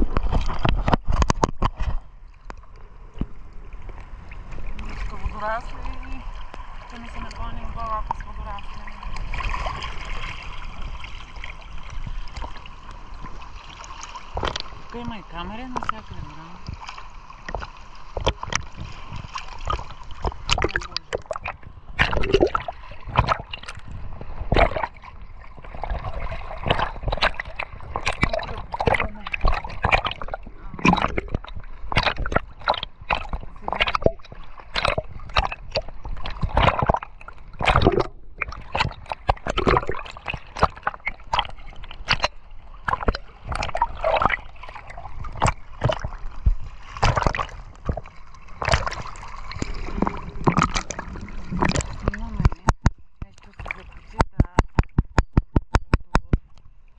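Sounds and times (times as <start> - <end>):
sea water splashing: 0.0 - 56.9.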